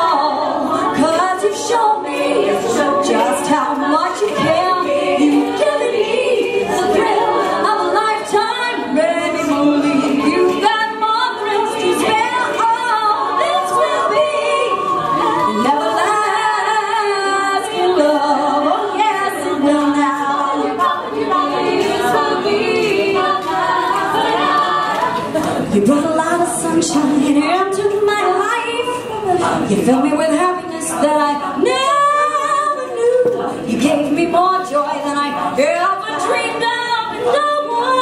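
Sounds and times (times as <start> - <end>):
woman singing lead: 0.0 - 38.0
women singing backing vocals: 0.0 - 38.0.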